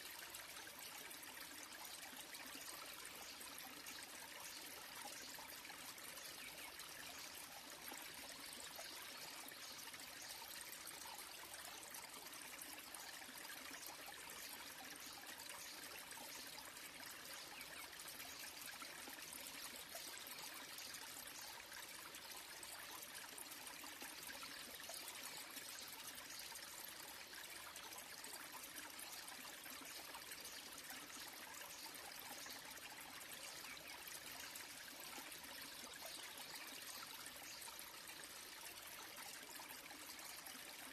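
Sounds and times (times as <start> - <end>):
small waterfall trickling: 0.0 - 40.9.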